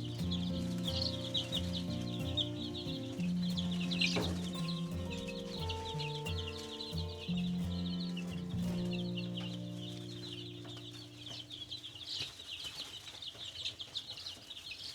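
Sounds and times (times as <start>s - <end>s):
sustained music chords: 0.0s - 12.2s
baby chicks peeping: 0.0s - 14.9s.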